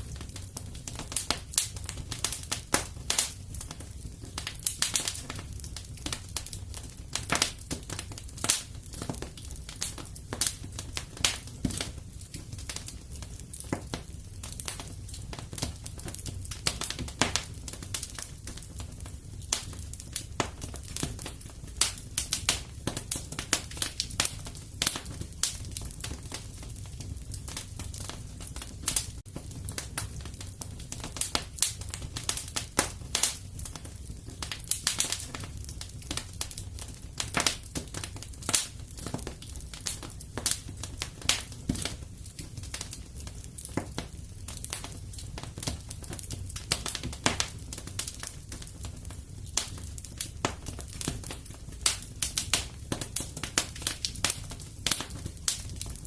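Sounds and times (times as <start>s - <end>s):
low rumble of flames: 0.0s - 56.0s
wood fire pops and snaps: 0.0s - 56.0s.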